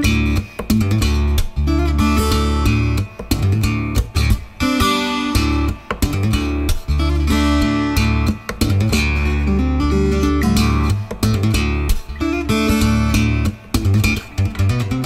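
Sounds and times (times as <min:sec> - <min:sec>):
guitar-led song with beat: 0:00.0 - 0:15.0.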